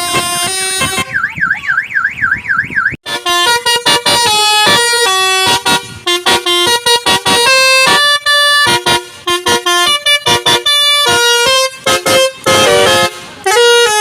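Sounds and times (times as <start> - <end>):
musical car horn: 0.0 - 1.2, 3.0 - 14.0.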